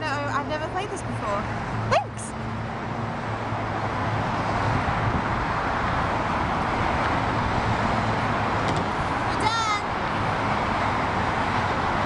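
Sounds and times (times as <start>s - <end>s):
road traffic hiss and hum: 0.0s - 12.0s.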